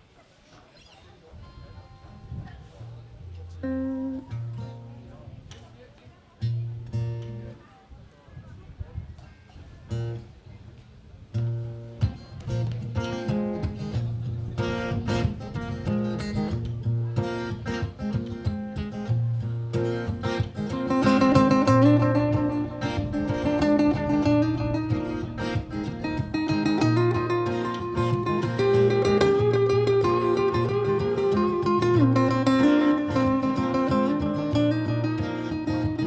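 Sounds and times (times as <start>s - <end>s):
baritone guitar plucked notes: 1.8s - 7.6s, 11.4s - 36.0s.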